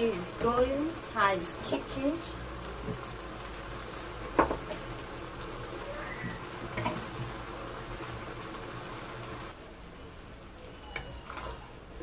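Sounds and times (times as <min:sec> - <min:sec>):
sauce bubbling in a frying pan: 0:00.0 - 0:12.0.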